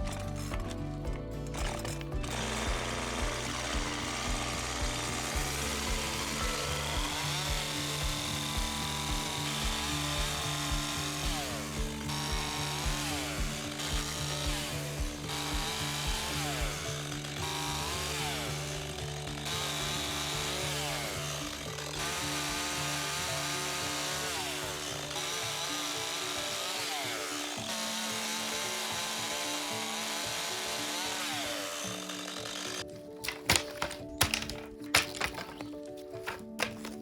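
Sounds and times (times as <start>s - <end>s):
chainsaw cutting logs: 0.0s - 37.0s
music with held chords: 0.0s - 37.0s.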